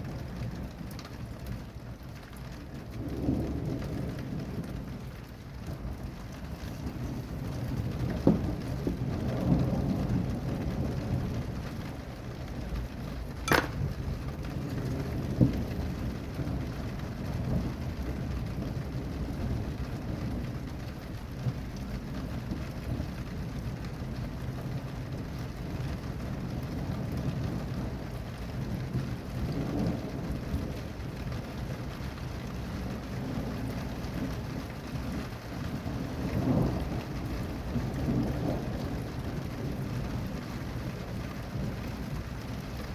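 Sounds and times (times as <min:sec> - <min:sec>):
steady rain falling: 0:00.0 - 0:42.9
low thunder rumbling: 0:02.4 - 0:42.9.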